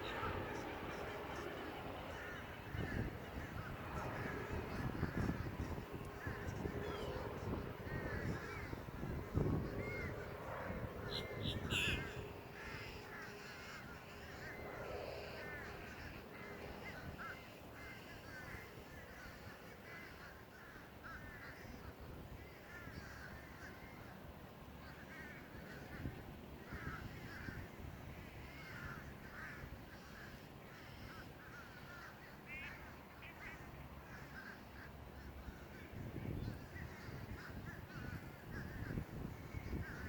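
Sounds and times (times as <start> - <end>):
crows cawing: 2.1 - 40.0.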